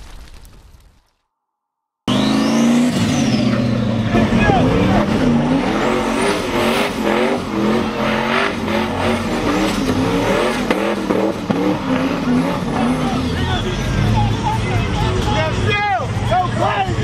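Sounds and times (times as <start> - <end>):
car engine revving: 2.1 - 17.0.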